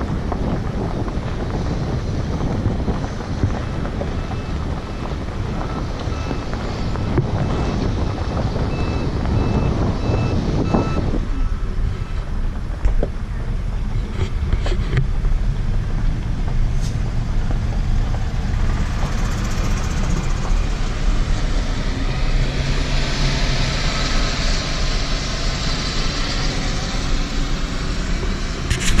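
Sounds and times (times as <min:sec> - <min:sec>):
vehicle engine running: 0:00.0 - 0:29.0
wind noise on microphone: 0:00.0 - 0:29.0.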